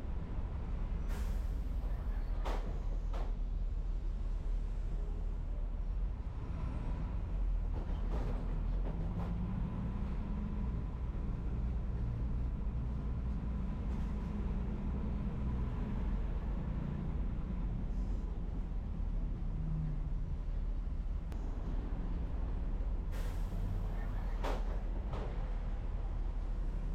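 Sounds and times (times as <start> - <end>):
bus engine and road rumble: 0.0 - 26.9.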